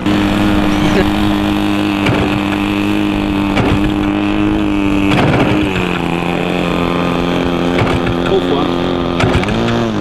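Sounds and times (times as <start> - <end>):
model plane engine running: 0.0 - 10.0.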